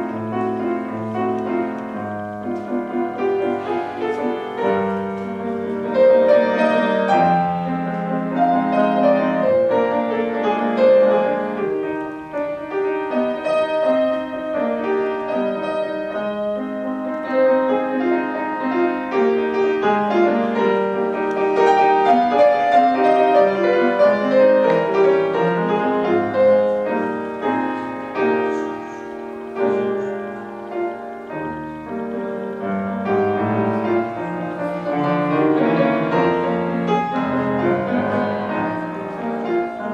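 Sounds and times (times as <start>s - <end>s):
solo classical piano: 0.0s - 39.9s.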